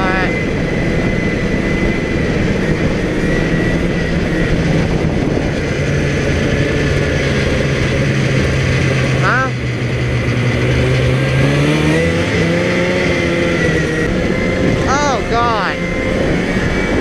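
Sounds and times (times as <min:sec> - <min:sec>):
snowmobile two-stroke engine running: 0:00.0 - 0:17.0.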